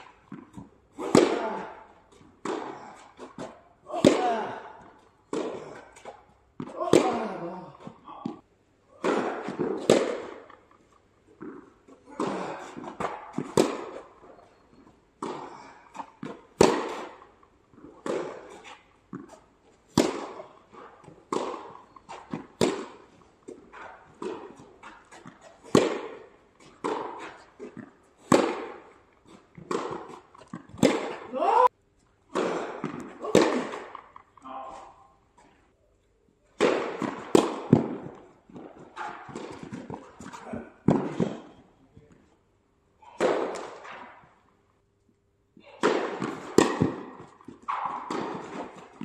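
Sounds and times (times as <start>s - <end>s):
tennis ball struck by rackets: 0.0s - 8.4s, 9.0s - 31.7s, 32.3s - 34.3s, 36.6s - 41.6s, 43.1s - 44.4s, 45.7s - 49.0s
tennis ball bouncing on court: 0.1s - 8.4s, 9.0s - 31.4s, 32.3s - 34.3s, 36.6s - 41.6s, 45.8s - 49.0s.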